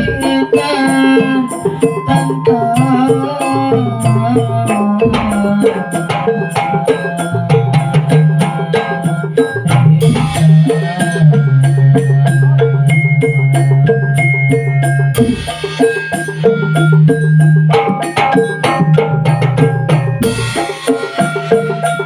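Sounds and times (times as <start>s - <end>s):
wood-block strikes and drums: 0.0s - 22.0s.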